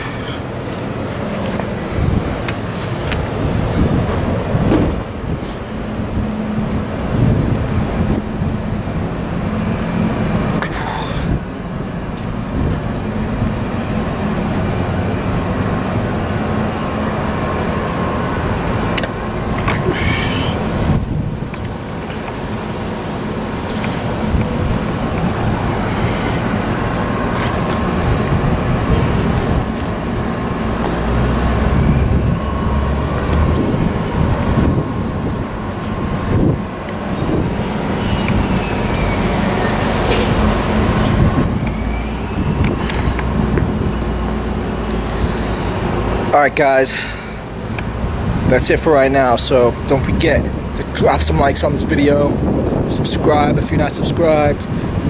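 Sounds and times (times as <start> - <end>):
wind rumbling on microphone: 0.0 - 46.4, 47.1 - 55.0
city traffic noise: 0.0 - 55.0.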